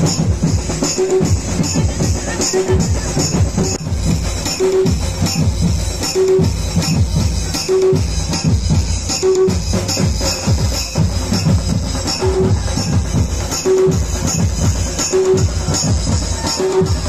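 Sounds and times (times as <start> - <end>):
music with heavy drum beat: 0.0 - 17.0.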